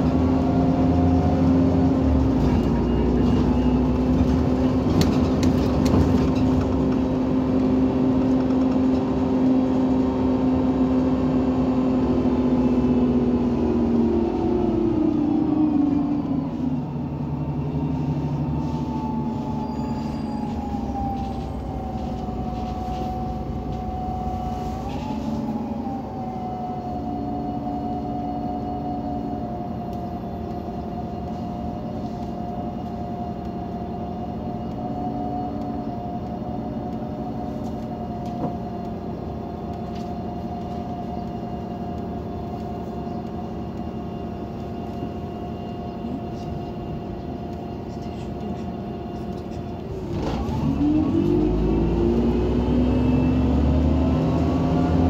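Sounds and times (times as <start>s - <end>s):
bus engine hum with whine: 0.0s - 55.0s.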